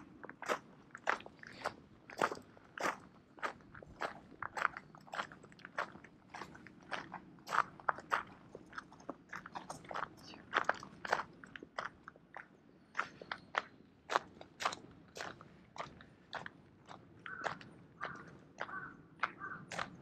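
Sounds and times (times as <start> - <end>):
footsteps on gravel: 0.3 - 20.0.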